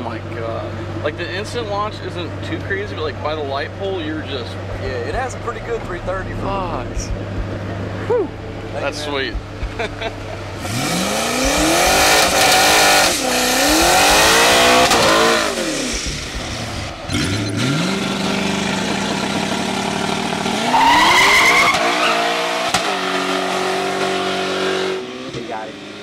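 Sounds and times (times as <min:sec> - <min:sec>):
car engine revving: 0:00.1 - 0:26.0.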